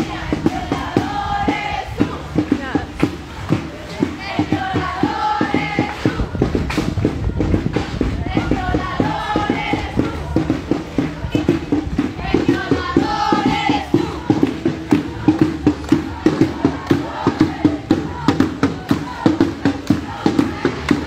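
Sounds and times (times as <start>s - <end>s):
crowd chanting and singing: 0.0s - 21.0s
percussion beat: 0.0s - 21.0s.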